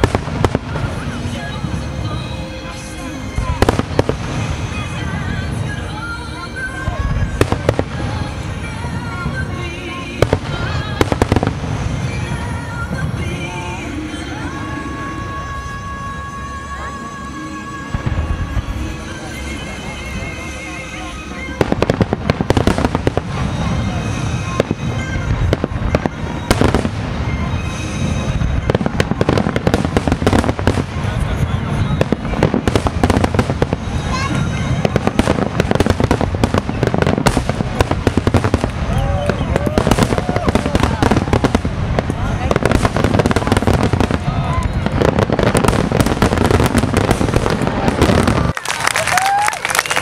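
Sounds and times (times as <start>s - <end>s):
fireworks bursting with sharp bangs: 0.0s - 16.4s, 17.8s - 50.0s
music playing: 0.0s - 50.0s.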